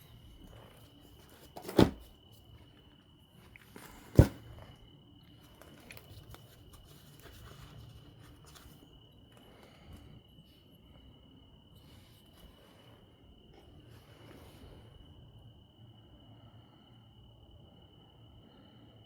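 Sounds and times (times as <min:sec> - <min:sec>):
cricket trill: 0:00.0 - 0:19.0.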